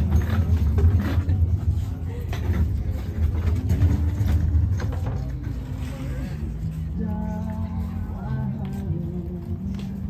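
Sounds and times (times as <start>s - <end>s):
faint voices of shoppers: 0.0s - 10.0s.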